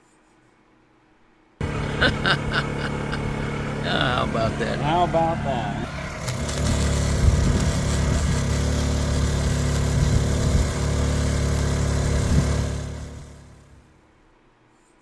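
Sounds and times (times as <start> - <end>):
engine running steadily: 1.6 - 14.0.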